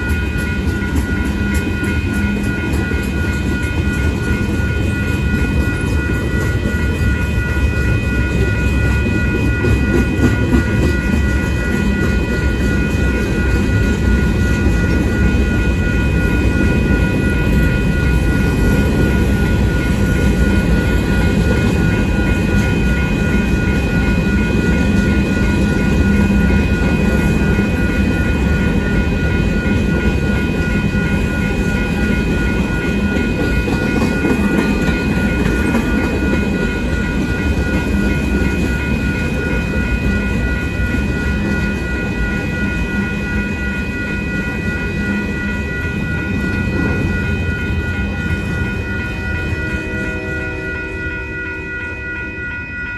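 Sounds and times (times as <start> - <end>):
crossing bell ringing: 0.0 - 52.9
freight train wheels rumbling: 0.0 - 52.9.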